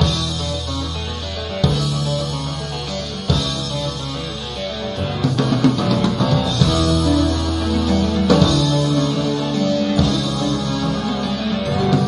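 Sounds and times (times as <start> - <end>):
plucked guitar-like music: 0.0 - 12.0.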